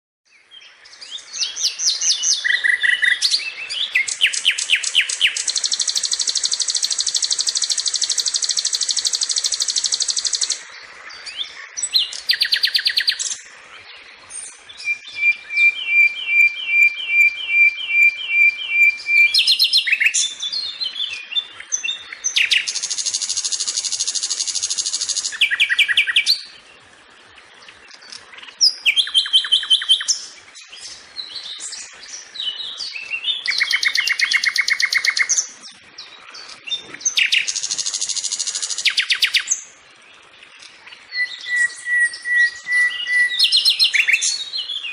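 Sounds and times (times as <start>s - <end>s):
flycatcher singing trills: 0.4s - 26.7s, 27.6s - 44.9s.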